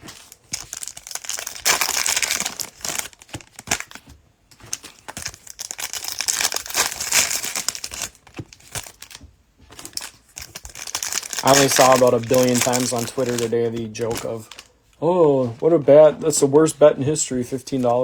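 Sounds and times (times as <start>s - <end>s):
cellophane wrapper crinkling and tearing: 0.0s - 15.0s, 17.4s - 18.0s.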